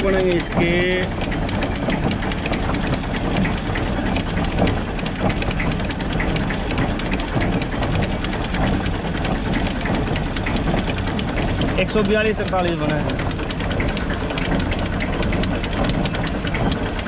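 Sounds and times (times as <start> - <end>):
diesel tractor engine idling: 0.0 - 17.0
rapid mechanical clatter: 0.0 - 17.0.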